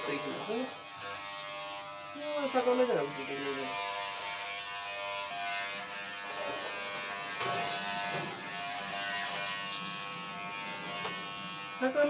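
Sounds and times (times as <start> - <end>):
electric pet clipper buzzing: 0.0 - 12.0.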